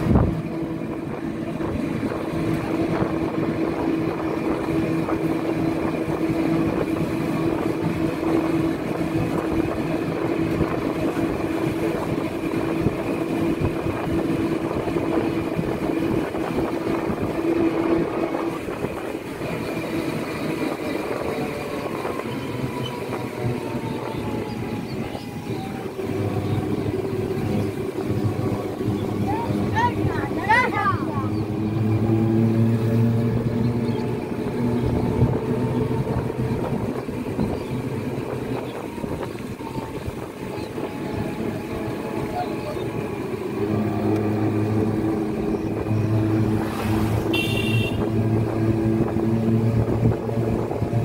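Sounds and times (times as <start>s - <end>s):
road rushing noise: 0.0s - 51.0s
vehicle engine hum: 0.0s - 51.0s.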